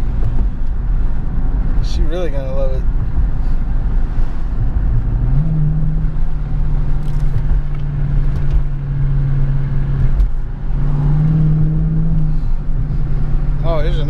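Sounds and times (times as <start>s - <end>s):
car engine droning inside cabin: 0.0s - 14.0s.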